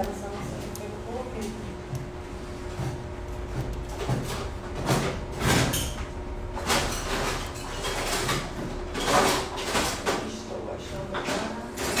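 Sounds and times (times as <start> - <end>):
objects rustling and scraping: 0.2 - 12.0.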